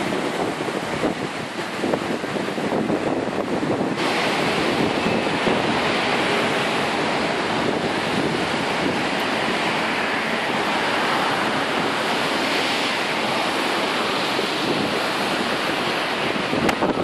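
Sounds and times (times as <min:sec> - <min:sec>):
surf breaking against a seawall: 0:00.0 - 0:17.0.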